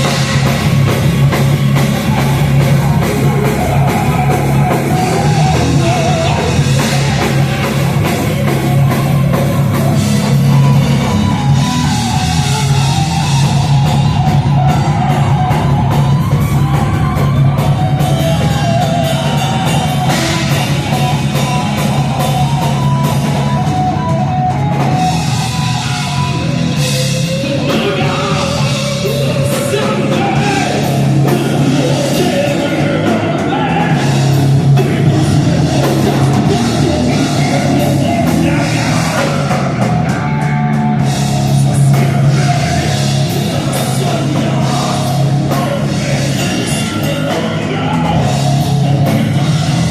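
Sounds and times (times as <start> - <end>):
bass guitar: 0.0 - 49.9
drum kit: 0.0 - 49.9
electric guitars: 0.0 - 49.9
person singing and shouting: 1.6 - 49.9.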